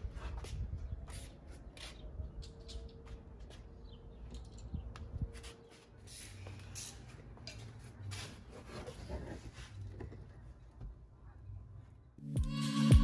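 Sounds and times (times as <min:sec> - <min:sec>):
rustling and shuffling: 0:00.0 - 0:11.1.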